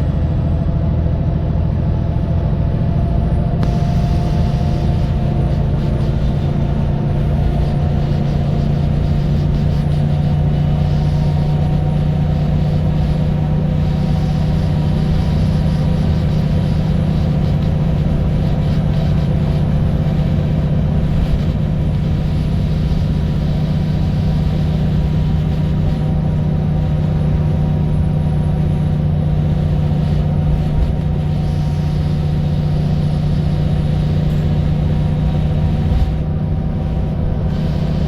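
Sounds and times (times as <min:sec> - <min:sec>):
bus diesel engine running: 0:00.0 - 0:38.0
road noise: 0:00.0 - 0:38.0.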